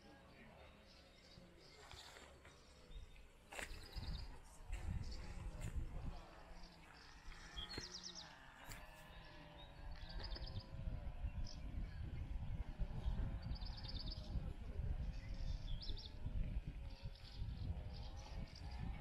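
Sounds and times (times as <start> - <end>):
wind buffeting microphone: 2.9 - 19.0.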